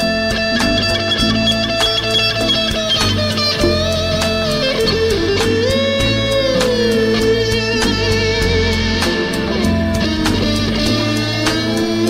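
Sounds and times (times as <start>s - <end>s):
electric guitar sliding note: 0.0s - 12.0s
steady beat: 0.0s - 12.0s.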